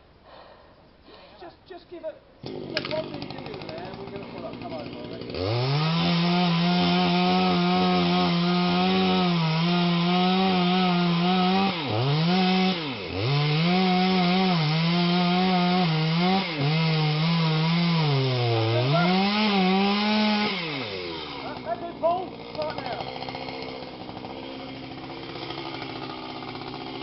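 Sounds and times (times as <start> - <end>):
chainsaw cutting tree trunk: 2.4 - 27.0.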